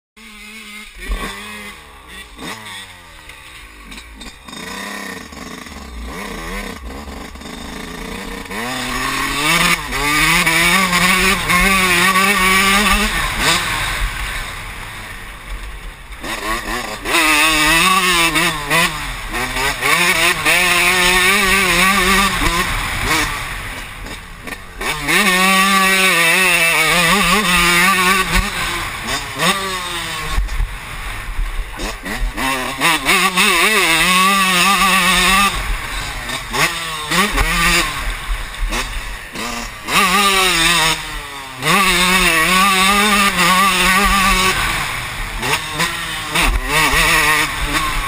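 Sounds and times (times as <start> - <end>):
motocross bike engine revving: 0.2 - 48.0.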